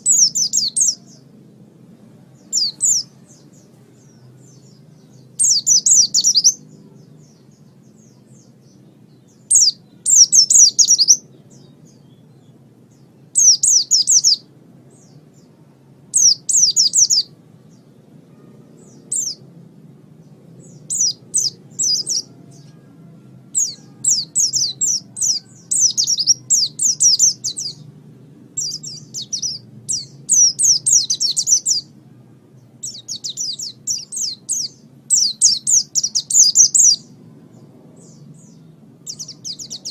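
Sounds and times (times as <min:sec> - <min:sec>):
bird twittering song: 0:00.0 - 0:01.4, 0:02.0 - 0:19.5, 0:20.2 - 0:22.9, 0:23.6 - 0:32.0, 0:32.6 - 0:39.9
faint low hum: 0:00.0 - 0:39.9.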